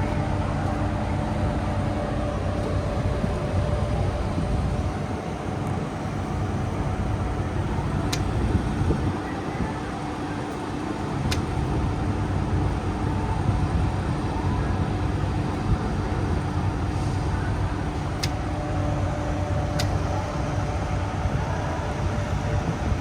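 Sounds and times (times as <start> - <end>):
diesel truck engines idling: 0.0 - 23.0
faint steady hum: 0.0 - 23.0.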